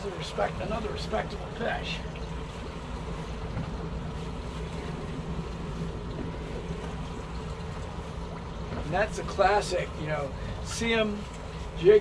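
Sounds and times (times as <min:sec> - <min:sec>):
outboard motors droning: 0:00.0 - 0:12.0
water wash: 0:00.0 - 0:12.0
wind: 0:00.0 - 0:12.0.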